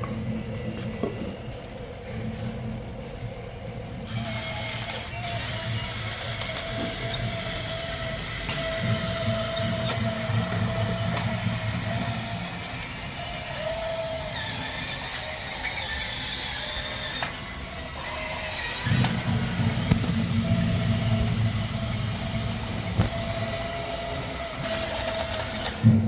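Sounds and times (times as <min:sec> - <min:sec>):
deeper motor hum: 0:00.0 - 0:26.0
electric gear motors whirring: 0:00.7 - 0:26.0.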